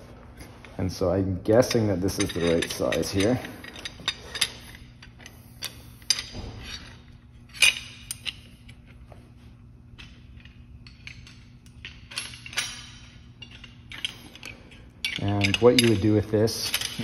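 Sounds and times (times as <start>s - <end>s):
low hum: 0.0s - 17.0s
metal parts clinking: 1.6s - 9.0s, 10.0s - 17.0s.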